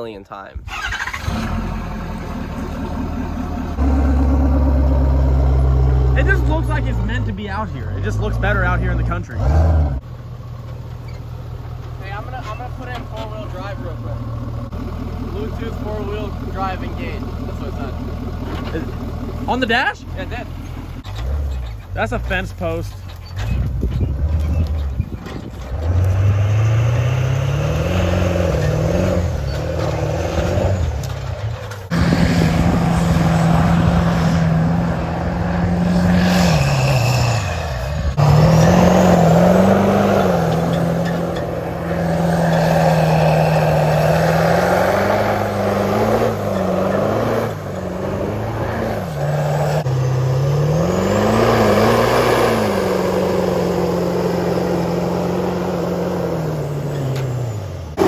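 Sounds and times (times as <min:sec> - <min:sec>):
diesel truck engine revving: 0:00.6 - 0:58.0.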